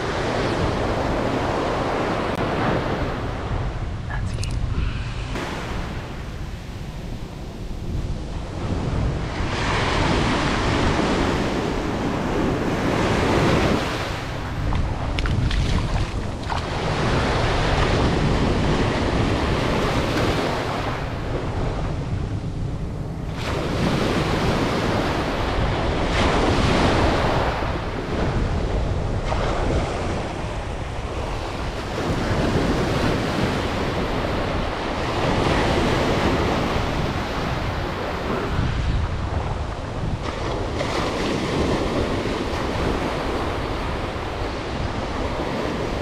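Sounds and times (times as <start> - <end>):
ocean surf breaking: 0.0 - 21.9, 23.3 - 46.0
wind rumbling on microphone: 0.0 - 46.0.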